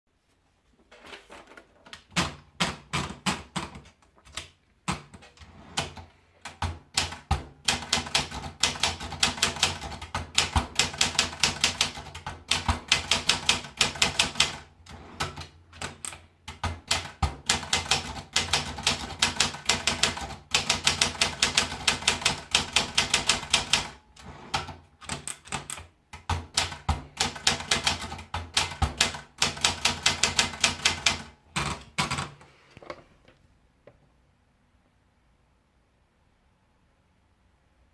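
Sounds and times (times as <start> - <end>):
manual typewriter typing: 1.8 - 32.4.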